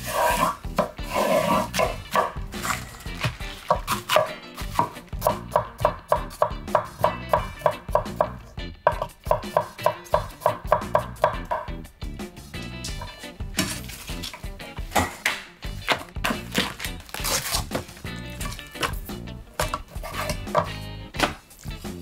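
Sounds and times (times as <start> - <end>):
knife chopping on cutting board: 0.1 - 11.8, 12.9 - 19.0, 19.6 - 21.5.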